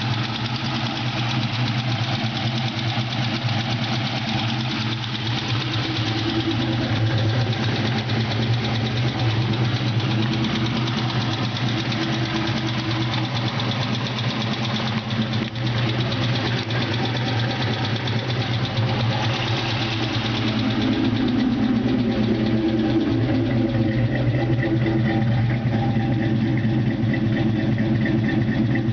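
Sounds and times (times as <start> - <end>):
car engine idling with ticking: 0.0 - 28.9.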